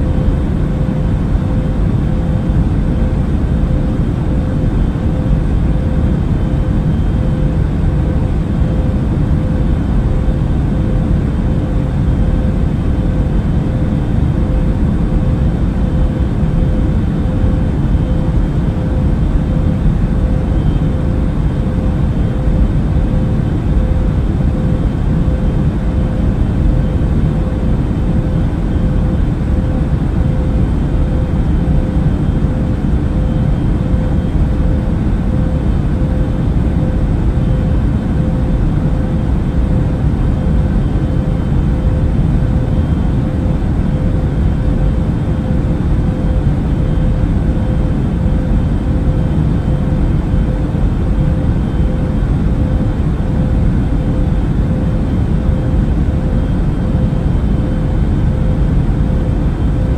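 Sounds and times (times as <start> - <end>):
airplane cabin engine rumble: 0.0 - 59.9
thin constant hum: 0.0 - 59.9.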